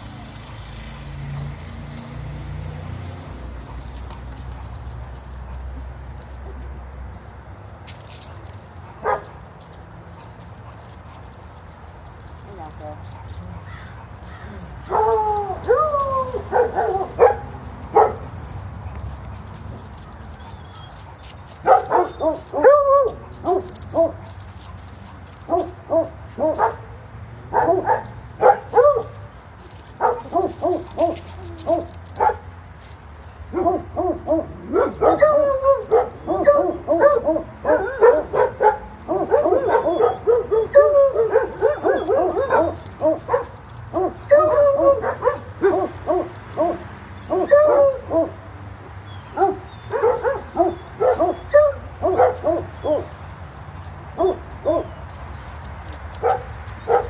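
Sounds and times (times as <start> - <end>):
dogs barking: 8.1 - 57.0.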